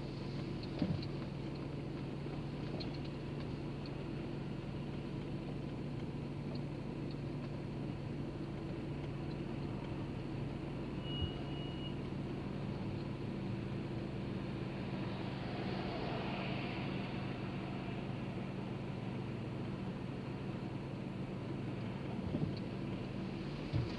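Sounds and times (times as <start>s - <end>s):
engine and road hum in car: 0.0s - 23.9s.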